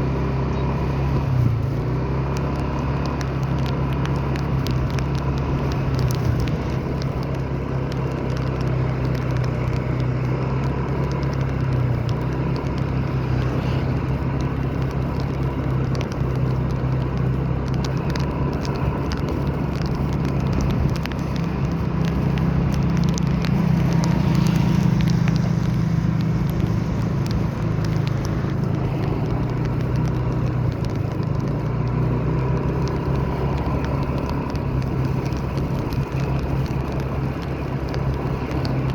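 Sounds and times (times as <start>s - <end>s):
vehicle engine and road drone: 0.0s - 38.9s
light crackling ticks: 0.2s - 38.9s.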